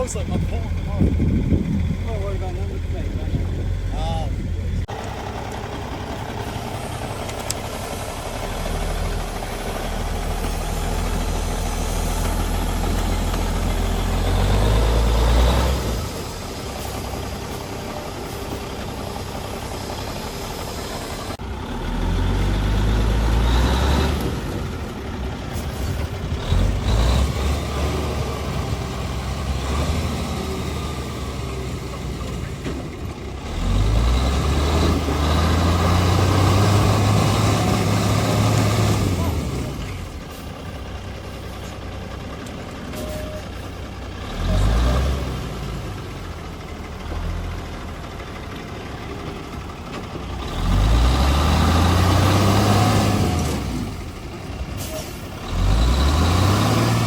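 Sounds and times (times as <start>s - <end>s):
diesel truck engine revving: 0.0s - 57.0s.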